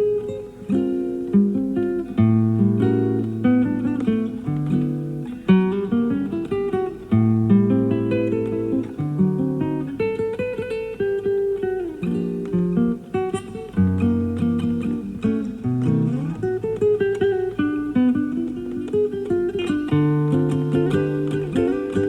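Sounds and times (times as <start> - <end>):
classical guitar playing: 0.0 - 22.0.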